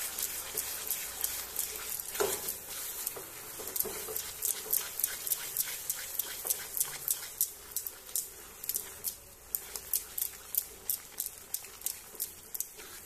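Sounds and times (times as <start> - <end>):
spatula stirring thick food in pan: 0.0 - 13.0.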